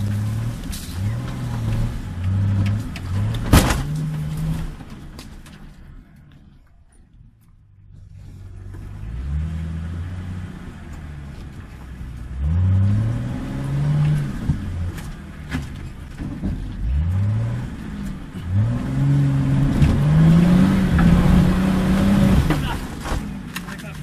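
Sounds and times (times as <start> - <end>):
engine revving: 0.0 - 5.0, 8.1 - 16.1, 16.7 - 24.0.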